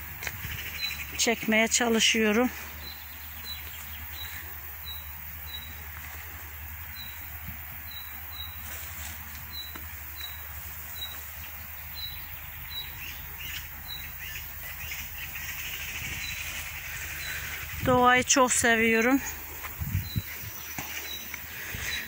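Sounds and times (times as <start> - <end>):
other birds chirping: 0.0 - 22.0.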